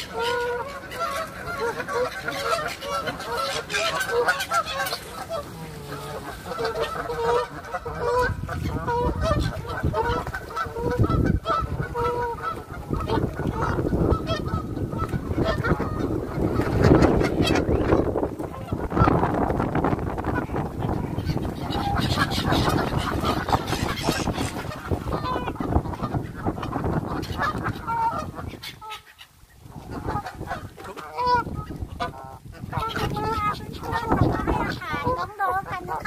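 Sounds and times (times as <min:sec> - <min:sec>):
geese honking: 0:00.0 - 0:36.0
gulls calling: 0:00.0 - 0:36.0.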